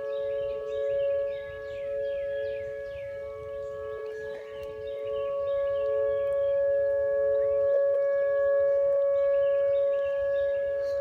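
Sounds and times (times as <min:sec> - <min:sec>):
tornado warning siren two-tone: 0:00.0 - 0:11.0.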